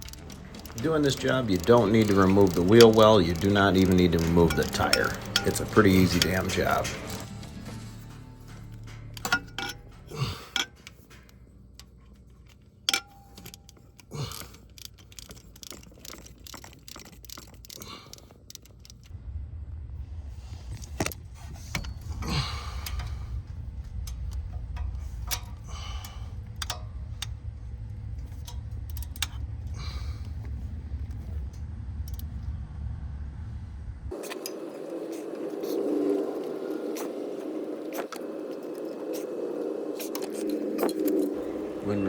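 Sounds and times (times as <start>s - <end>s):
metal tools clinking on engine: 0.0s - 19.1s, 20.8s - 32.3s, 34.1s - 42.0s
steady low hum: 0.0s - 42.0s.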